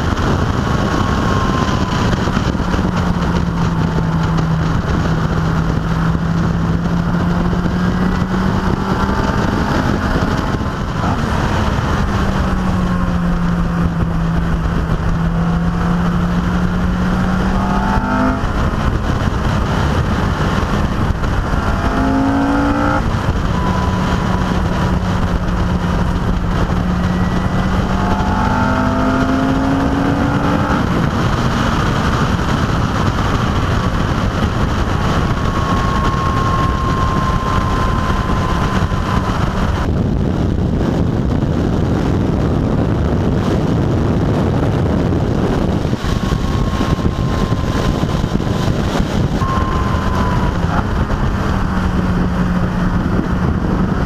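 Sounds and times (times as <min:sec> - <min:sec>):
car engine accelerating: 0:00.0 - 0:54.0
wind and road rush: 0:00.0 - 0:54.0.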